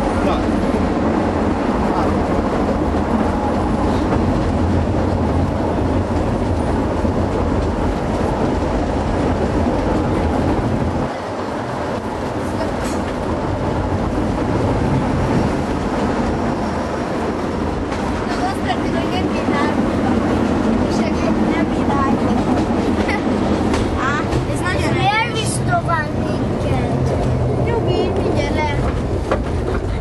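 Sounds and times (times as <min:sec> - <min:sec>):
tram rolling on rails: 0:00.0 - 0:30.0.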